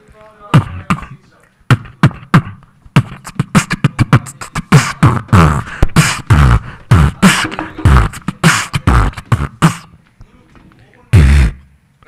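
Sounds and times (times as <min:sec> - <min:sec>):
person beatboxing: 0:00.0 - 0:10.0, 0:11.1 - 0:11.7.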